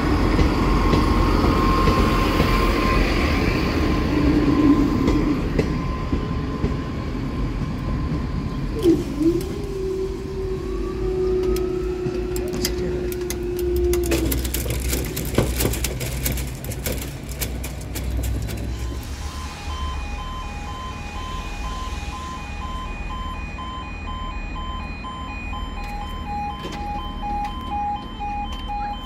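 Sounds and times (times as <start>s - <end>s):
pulsed warning alarm tones: 0.1s - 29.0s.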